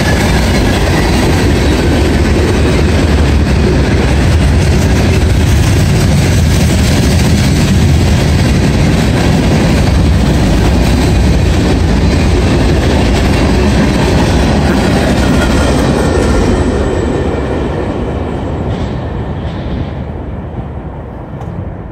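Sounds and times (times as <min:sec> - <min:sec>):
freight train wheels clattering: 0:00.0 - 0:21.7.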